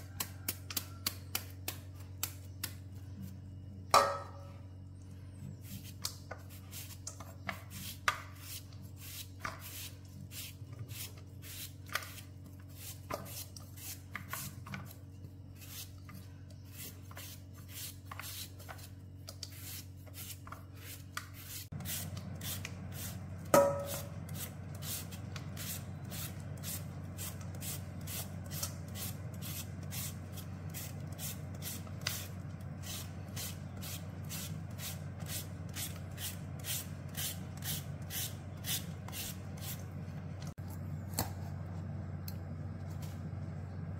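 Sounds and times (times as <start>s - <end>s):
blade scraping mango: 5.4s - 41.6s.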